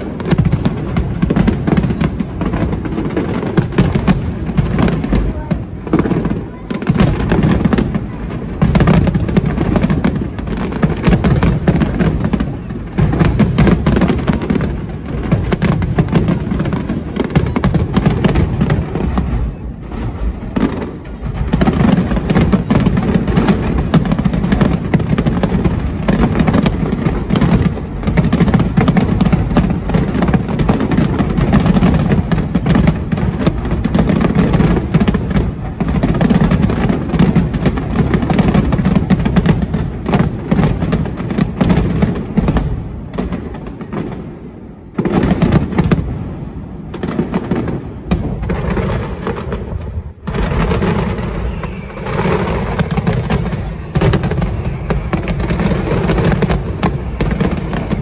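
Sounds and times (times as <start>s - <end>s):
firework shells booming and crackling: 0.0s - 58.0s.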